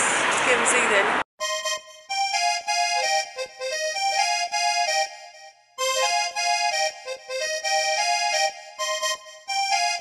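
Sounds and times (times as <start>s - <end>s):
instrumental melody: 1.4s - 10.0s.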